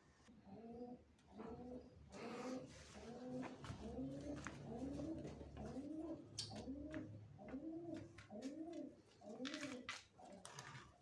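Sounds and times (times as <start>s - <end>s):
dove cooing: 0.4s - 9.8s.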